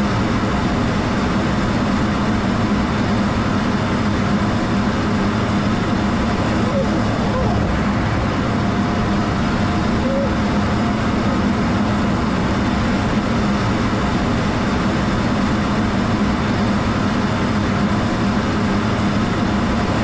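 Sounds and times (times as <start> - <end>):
jet cockpit engine and airflow: 0.0 - 20.0.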